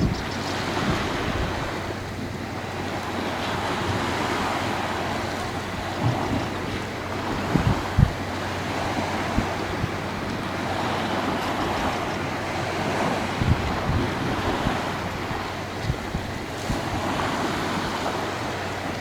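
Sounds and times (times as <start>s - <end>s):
sea surf washing on shore: 0.0s - 19.0s
wind buffeting microphone: 0.0s - 19.0s.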